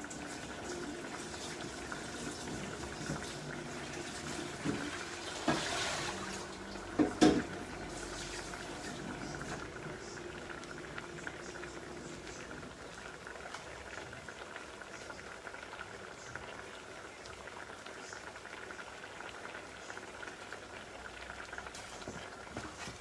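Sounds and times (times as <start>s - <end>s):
pots bubbling on stove: 0.0s - 23.0s.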